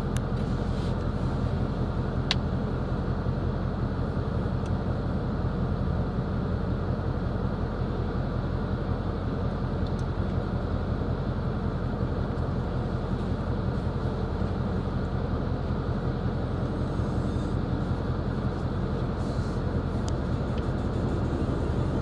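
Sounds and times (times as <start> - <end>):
car cabin road and engine noise: 0.0 - 22.0.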